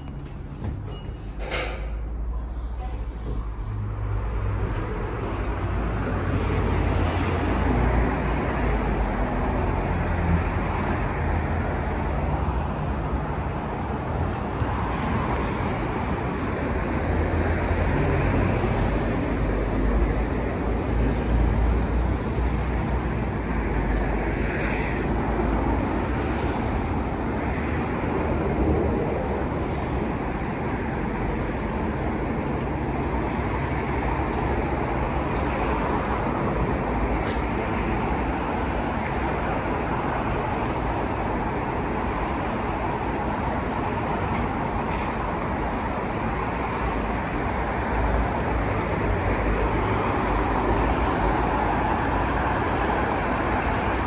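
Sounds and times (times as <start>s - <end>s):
city road traffic rumble: 0.0s - 54.0s.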